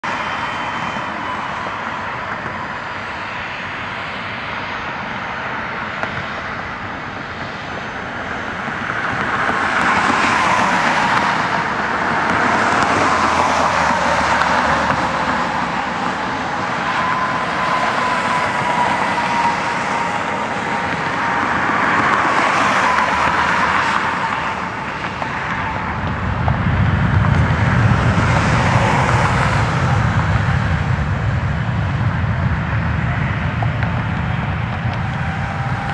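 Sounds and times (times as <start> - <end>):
jet turbine whine: 0.0 - 35.9.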